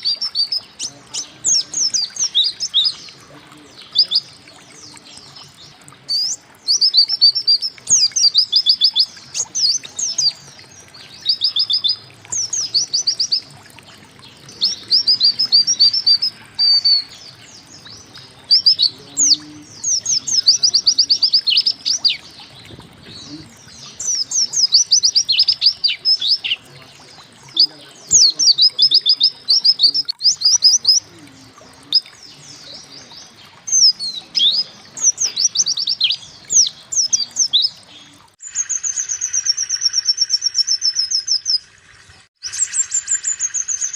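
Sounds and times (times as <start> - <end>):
bird singing high chirping notes: 0.0 - 41.7.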